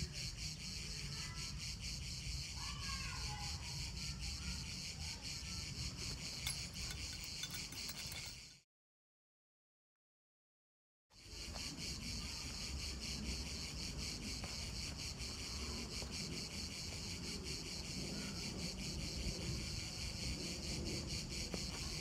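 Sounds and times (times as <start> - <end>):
cicadas buzzing: 0.0 - 8.5, 11.2 - 22.0.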